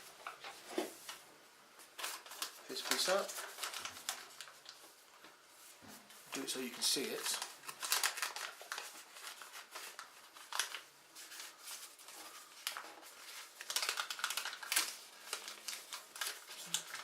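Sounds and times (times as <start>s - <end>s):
paper folding and crinkling: 1.8s - 17.0s.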